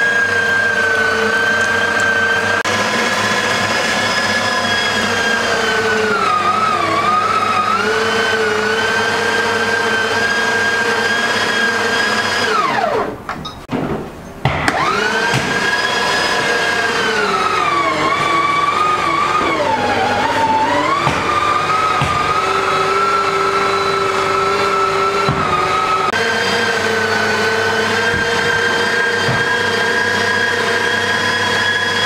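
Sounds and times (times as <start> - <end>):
meat grinder motor whine: 0.0 - 13.1, 14.7 - 32.0.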